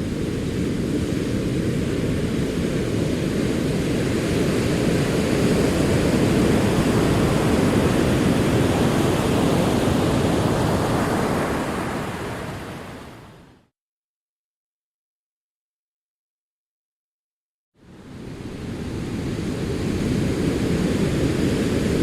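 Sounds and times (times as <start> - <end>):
rolling ocean waves: 0.0 - 13.6, 17.8 - 22.0.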